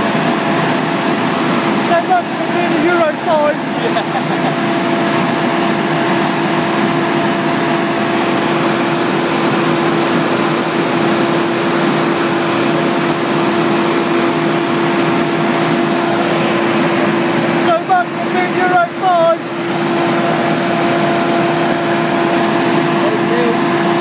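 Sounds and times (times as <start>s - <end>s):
truck diesel engine at high revs: 0.0s - 24.0s.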